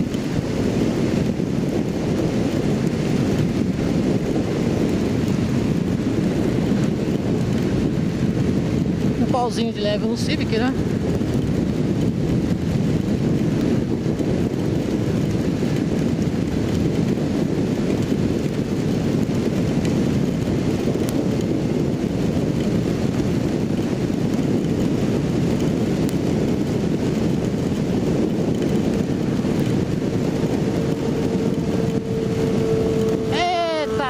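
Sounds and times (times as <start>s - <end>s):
motorcycle engine running: 0.0s - 34.0s
wind rushing over microphone: 0.0s - 34.0s.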